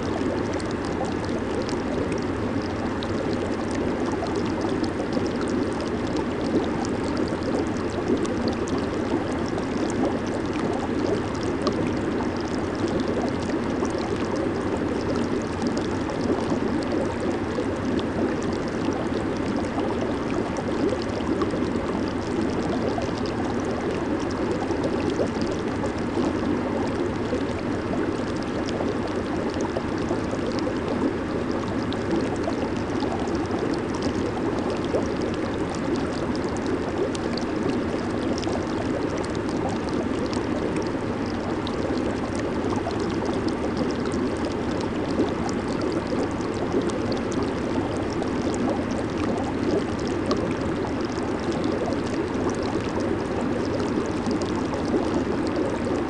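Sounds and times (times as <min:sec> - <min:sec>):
jacuzzi water bubbling: 0:00.0 - 0:56.0.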